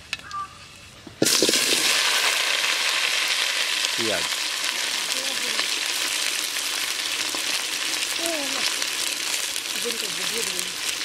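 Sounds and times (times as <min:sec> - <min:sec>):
onions sizzling in hot oil: 0:01.2 - 0:11.0.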